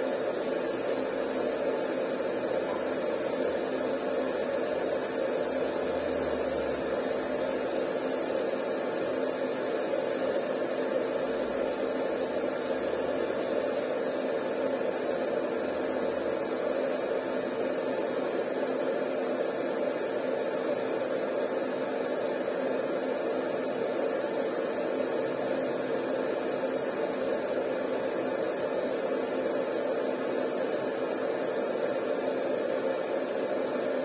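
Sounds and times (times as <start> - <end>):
laser marking machine humming: 0.0 - 34.0.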